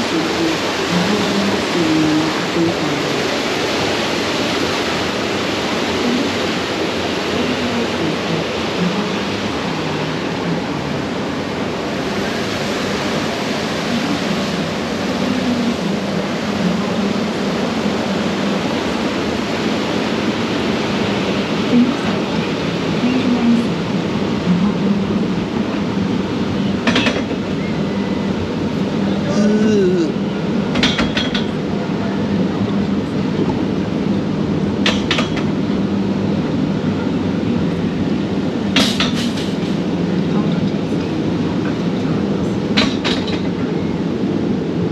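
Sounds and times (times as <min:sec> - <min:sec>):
conveyor rumble and hum: 0:00.0 - 0:44.9
rushing flowing water: 0:00.0 - 0:44.9.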